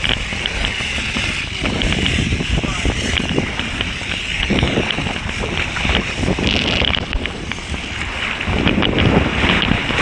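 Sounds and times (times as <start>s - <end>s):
water rushing and splashing: 0.0s - 10.0s
wind buffeting microphone: 0.0s - 10.0s.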